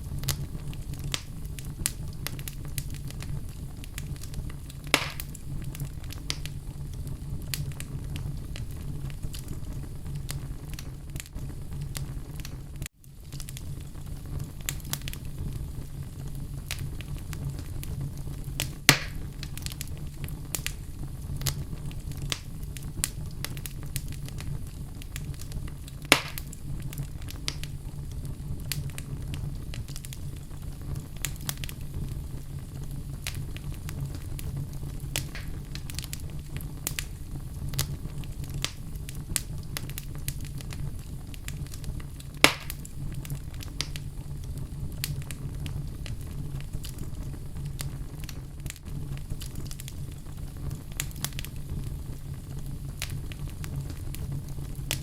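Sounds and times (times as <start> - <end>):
fire crackles: 0.0 - 55.0
loud fire pops: 0.0 - 55.0
wood fire rumbling: 0.0 - 55.0.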